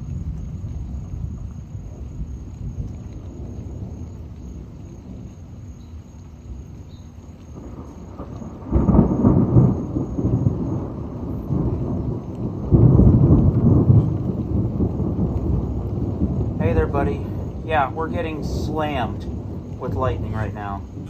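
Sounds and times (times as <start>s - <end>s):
thunder rumbling and pealing: 0.0s - 21.0s.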